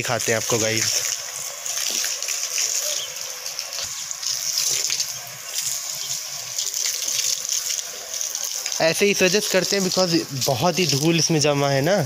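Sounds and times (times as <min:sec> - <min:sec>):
hose water splashing on concrete: 0:00.0 - 0:12.0.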